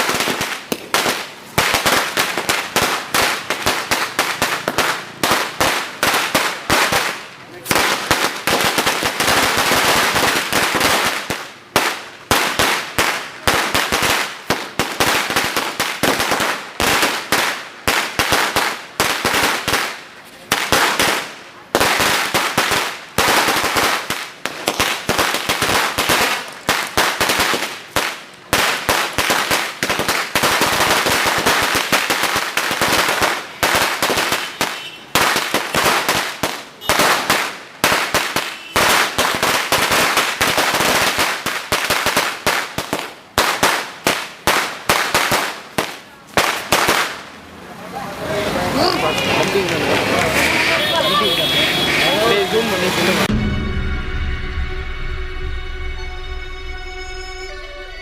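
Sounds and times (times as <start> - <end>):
firecrackers crackling: 0.0 - 53.6.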